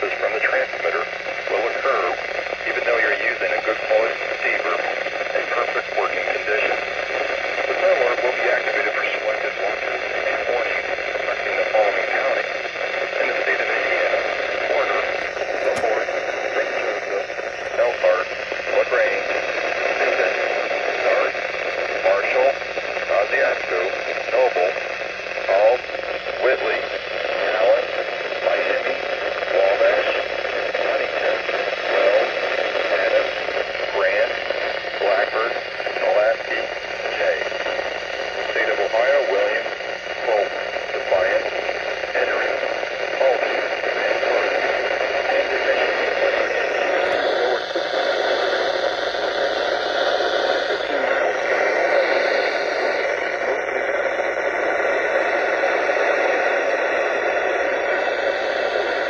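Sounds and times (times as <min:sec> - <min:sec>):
faint broadcast voice: 0:00.0 - 0:59.0
radio static hiss: 0:00.0 - 0:59.0.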